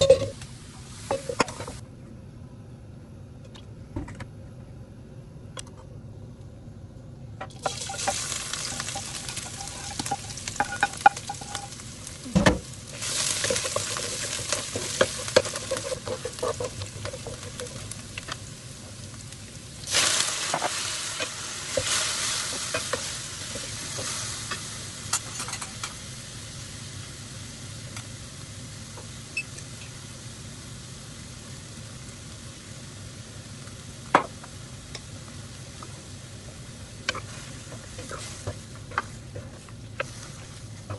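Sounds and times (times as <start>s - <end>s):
squid sizzling in a frying pan: 0.3s - 1.8s, 7.5s - 40.9s.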